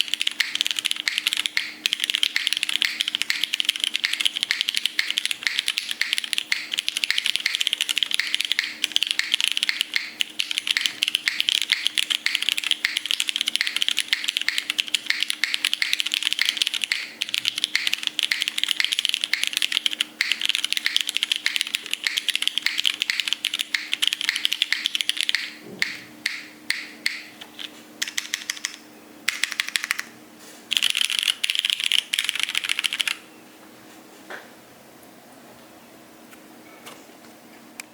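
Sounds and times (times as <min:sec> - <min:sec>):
keyboard typing: 0:00.0 - 0:30.1, 0:30.7 - 0:33.2.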